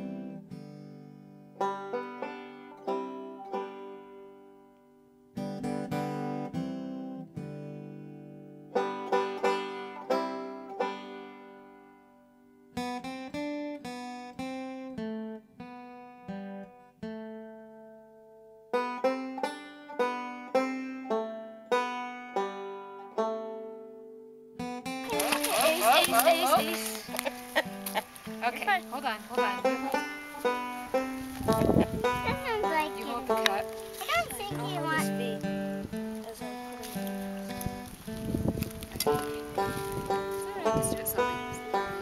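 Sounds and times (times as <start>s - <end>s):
plucked acoustic string instrument: 0.0s - 42.0s.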